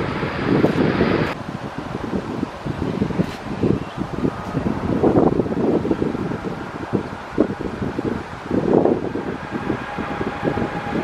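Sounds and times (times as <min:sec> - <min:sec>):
distant jet engines roaring: 0:00.0 - 0:11.0
wind buffeting microphone: 0:00.0 - 0:11.0.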